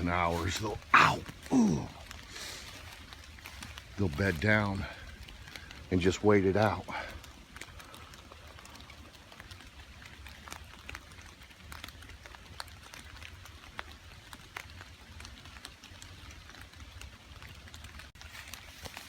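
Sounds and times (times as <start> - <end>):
rain hiss: 0.0 - 19.0
raindrops tapping on wet leaves: 0.0 - 19.0.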